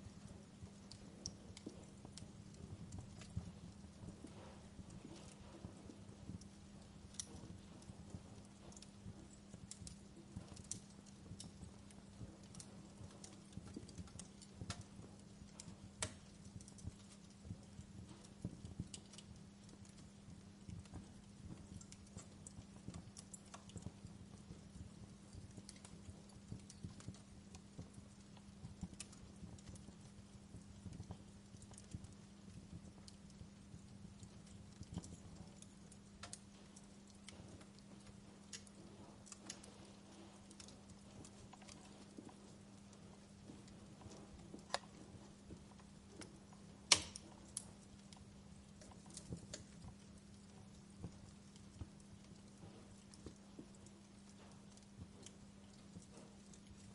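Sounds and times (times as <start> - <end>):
faint low hum: 0.0 - 56.9
wood fire crackling: 0.0 - 56.9.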